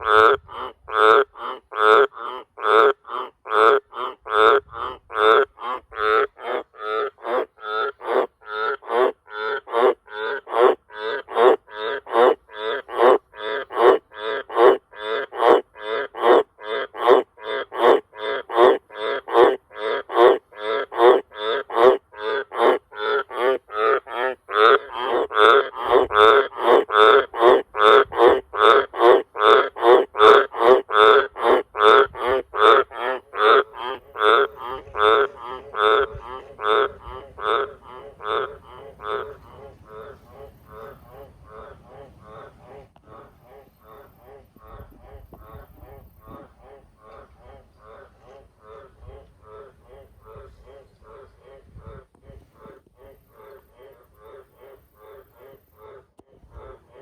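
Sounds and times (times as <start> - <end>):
frog croaking: 0.0 - 57.0.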